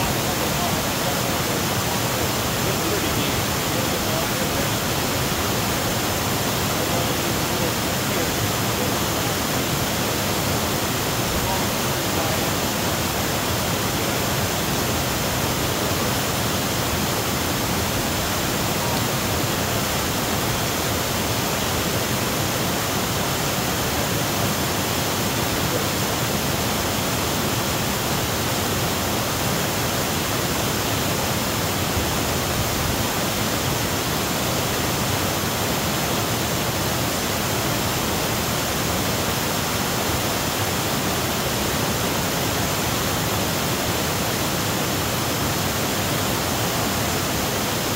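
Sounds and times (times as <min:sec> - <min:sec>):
waterfall rushing over boulders: 0:00.0 - 0:47.9.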